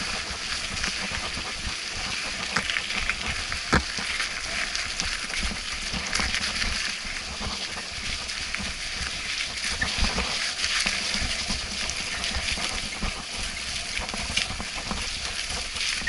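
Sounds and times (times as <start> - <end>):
bike tyres rattling on dirt trail: 0.0 - 16.0.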